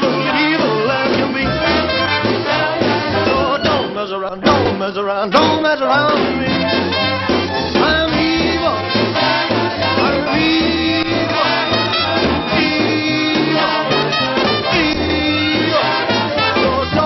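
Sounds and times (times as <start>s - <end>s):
swing band music: 0.0s - 17.0s.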